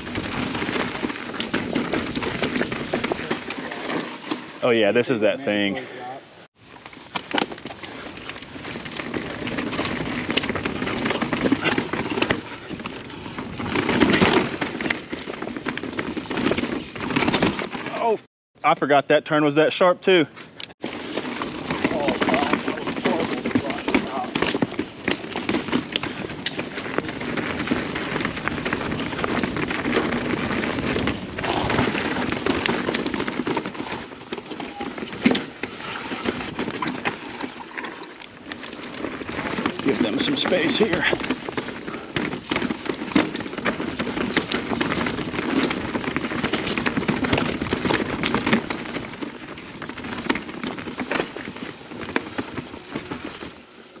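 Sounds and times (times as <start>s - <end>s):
bike knocks and rattles: 0.0s - 4.5s, 7.0s - 18.1s, 20.8s - 54.0s
bike tyres crunching over rocks: 0.0s - 5.0s, 6.6s - 18.2s, 20.8s - 54.0s.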